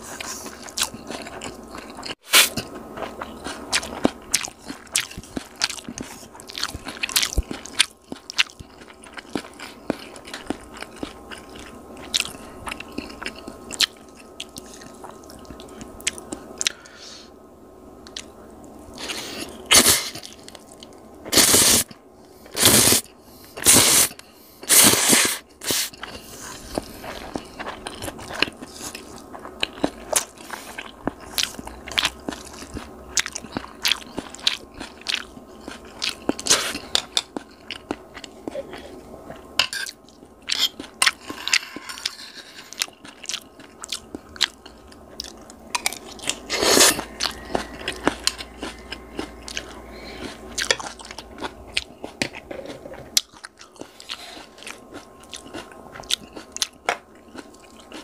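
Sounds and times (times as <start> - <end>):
chewing and crunching food: 0.0 - 17.0, 18.0 - 58.0.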